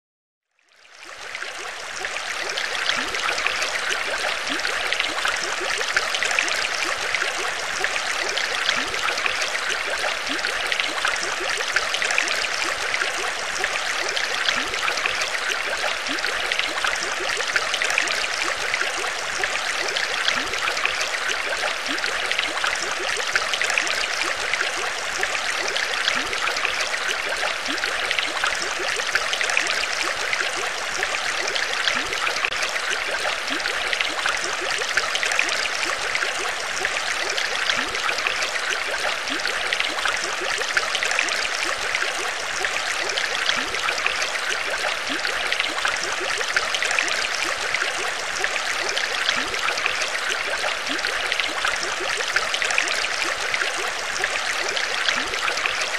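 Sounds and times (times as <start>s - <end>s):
aquarium water bubbling: 0.9s - 55.9s.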